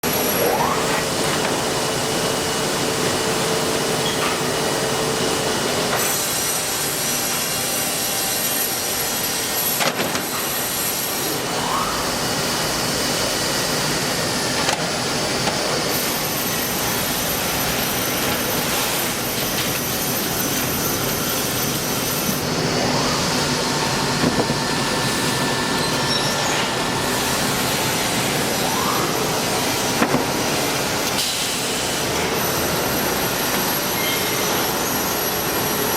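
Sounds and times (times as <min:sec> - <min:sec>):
saw machine running: 0:04.7 - 0:35.9.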